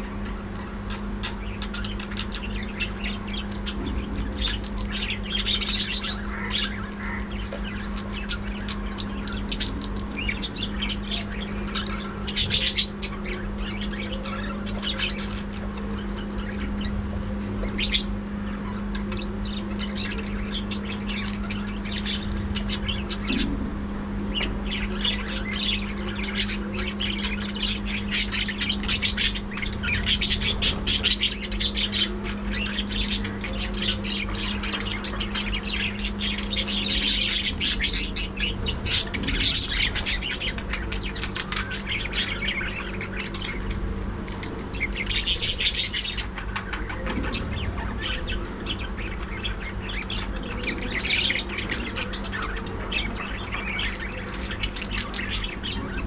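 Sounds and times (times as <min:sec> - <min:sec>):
budgerigars chattering: 0:00.0 - 0:56.0
steady low hum: 0:00.0 - 0:56.0.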